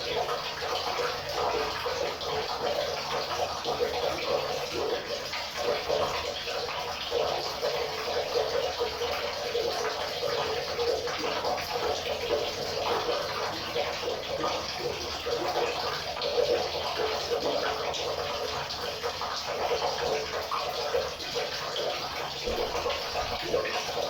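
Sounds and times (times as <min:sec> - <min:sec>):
small splashes and gurgles: 0:00.0 - 0:24.0.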